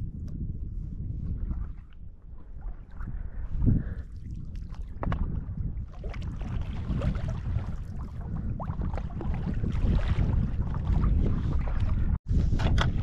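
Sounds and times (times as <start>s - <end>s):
wind rumbling on microphone: 0.0s - 13.0s
paddle splashing in water: 1.3s - 13.0s.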